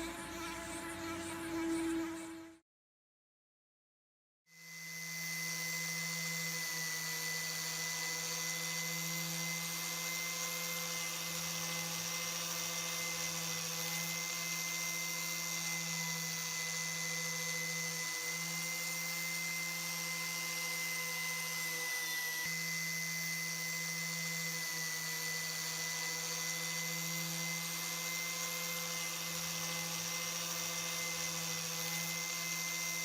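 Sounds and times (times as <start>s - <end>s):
electric power tool whining: 0.0s - 2.6s, 4.6s - 33.0s.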